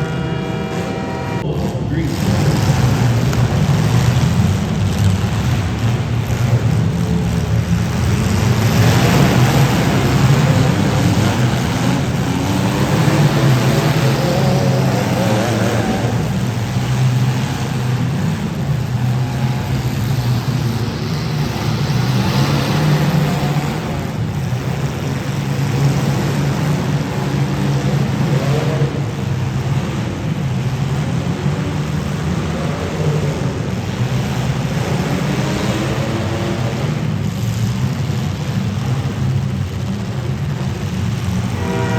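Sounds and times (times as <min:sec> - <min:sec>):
car engines revving loudly: 0:00.0 - 0:41.9.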